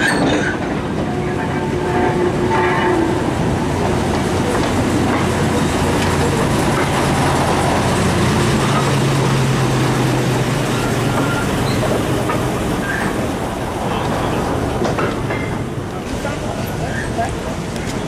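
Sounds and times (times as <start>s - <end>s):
diesel locomotive engine: 0.0s - 18.0s
wagons rumbling on track: 0.0s - 18.0s.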